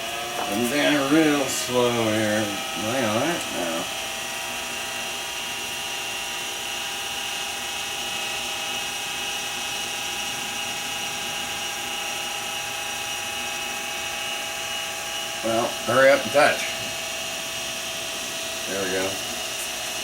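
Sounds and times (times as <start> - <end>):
mill spindle whining: 0.0 - 20.0.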